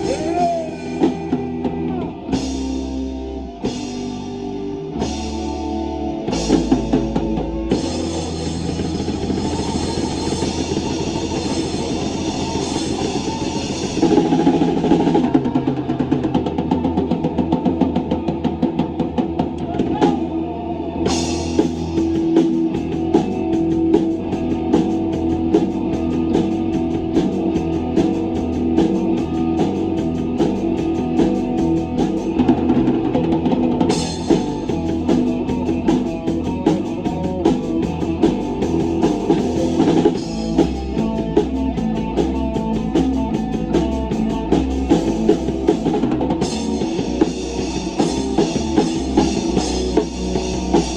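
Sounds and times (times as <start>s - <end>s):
drum kit beat: 0.0s - 18.5s, 21.1s - 50.9s
bass guitar: 0.0s - 50.9s
electric guitar: 0.0s - 50.9s.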